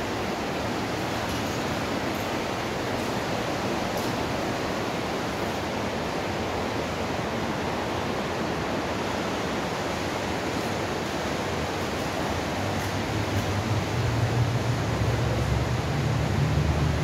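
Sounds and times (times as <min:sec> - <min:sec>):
water rushing in a culvert: 0:00.0 - 0:17.0.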